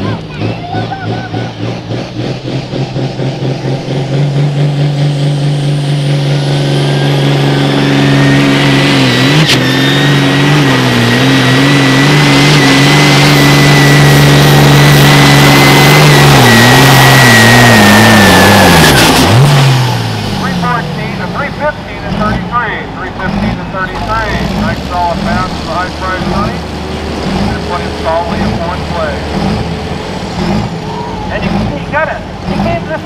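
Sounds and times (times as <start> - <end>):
tractor diesel engine under load: 0.0 - 33.0
high whine: 0.7 - 33.0.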